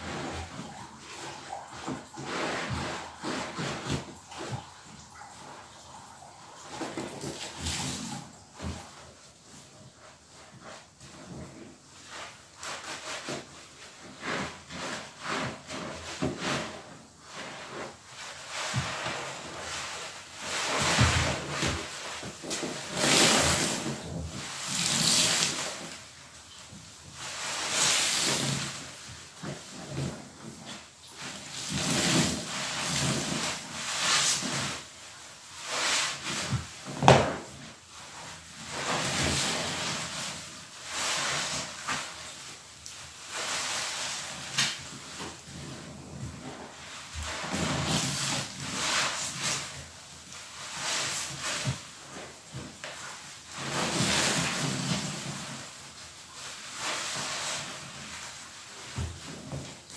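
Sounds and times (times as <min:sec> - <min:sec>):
sponges squelching in suds: 0:00.0 - 0:59.9.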